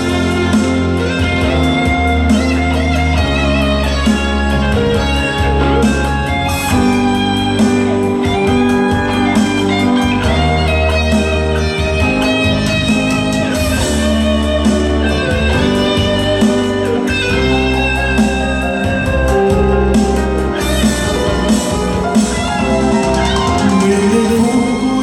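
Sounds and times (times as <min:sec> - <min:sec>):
band music led by guitar: 0:00.0 - 0:25.0
held bass notes: 0:00.0 - 0:25.0.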